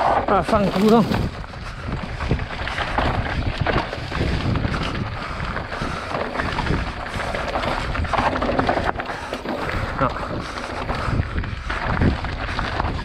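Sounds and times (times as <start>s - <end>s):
wind on microphone: 0.0s - 13.0s
bike clattering: 0.1s - 13.0s
tyres crunching over stones: 0.3s - 13.0s.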